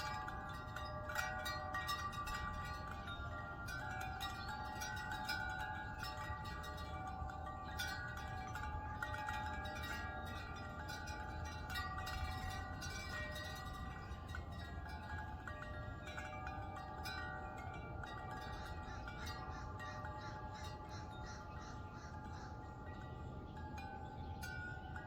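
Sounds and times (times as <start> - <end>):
low rumble of wind: 0.0 - 25.0
wind chimes ringing: 0.0 - 25.0.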